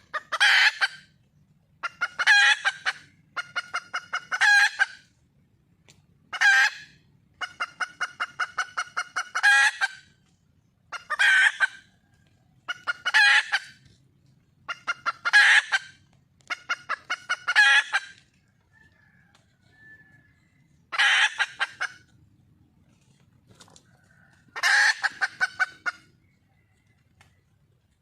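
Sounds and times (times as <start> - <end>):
hen clucking and squawking: 0.0 - 28.0.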